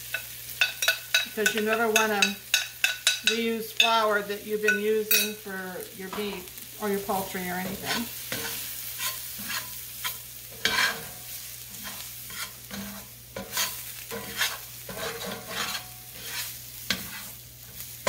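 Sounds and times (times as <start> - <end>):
utensil scraping a skillet: 0.0 - 5.5, 6.1 - 18.0
steady sizzle: 0.0 - 18.0.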